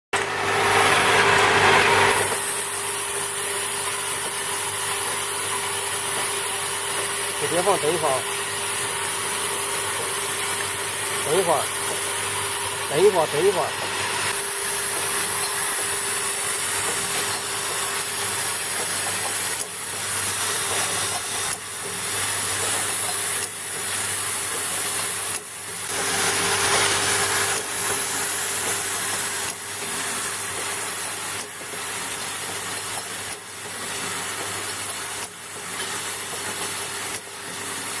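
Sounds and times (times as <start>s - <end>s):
filling machine humming: 0.2s - 38.0s.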